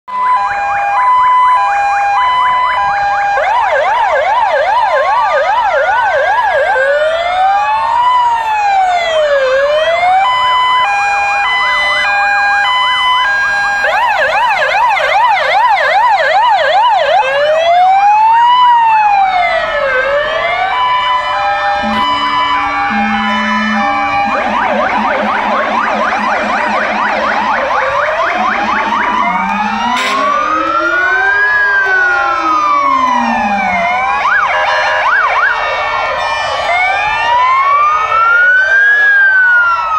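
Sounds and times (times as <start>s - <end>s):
fire engine siren: 0.0s - 39.9s.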